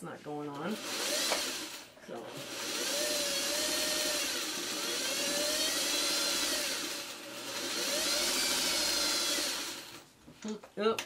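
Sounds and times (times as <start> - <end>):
electric sewing machine stitching: 0.7 - 10.0.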